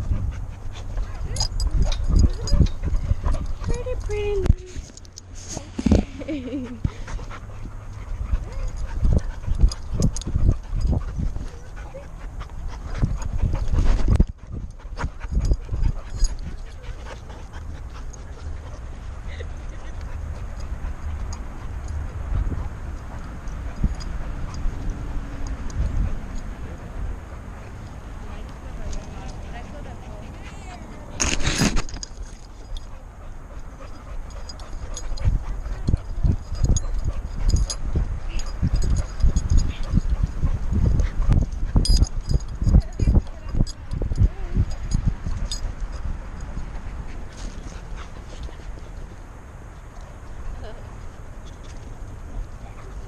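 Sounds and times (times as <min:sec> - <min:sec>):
dog panting: 0:00.0 - 0:53.0.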